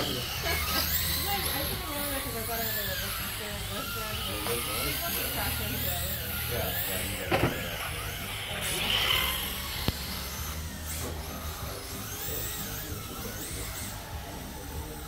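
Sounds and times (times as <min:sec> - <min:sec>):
electric toy car motors whining: 0:00.0 - 0:15.0.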